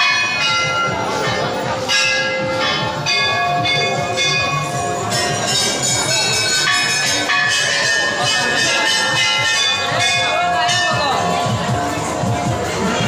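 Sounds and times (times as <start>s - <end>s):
hanging bells ringing: 0.0s - 13.0s.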